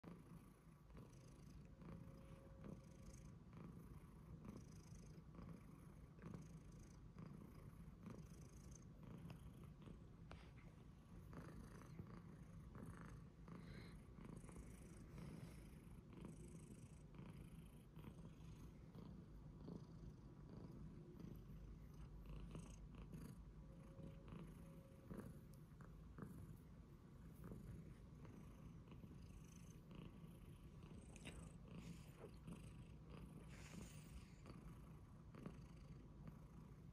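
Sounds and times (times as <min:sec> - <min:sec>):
cat purring: 0:00.0 - 0:36.9.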